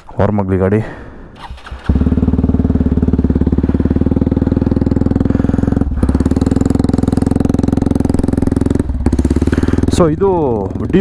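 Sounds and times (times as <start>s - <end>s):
motorcycle idling: 1.4s - 11.0s.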